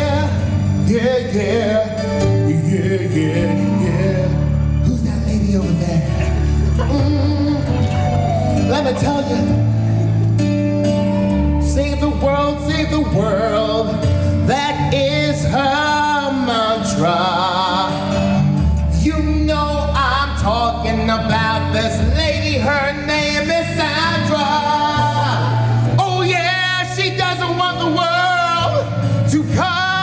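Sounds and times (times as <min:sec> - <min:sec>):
man singing: 0:00.0 - 0:10.1, 0:11.2 - 0:30.0
instrumental backing with bass line: 0:00.0 - 0:30.0.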